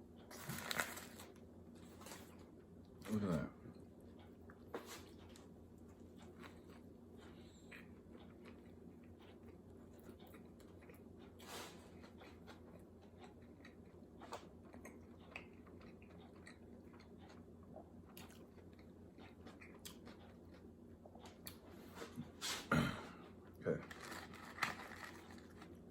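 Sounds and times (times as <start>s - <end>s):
low steady hum: 0.0s - 25.9s
close chewing food: 0.2s - 22.1s, 23.3s - 25.9s.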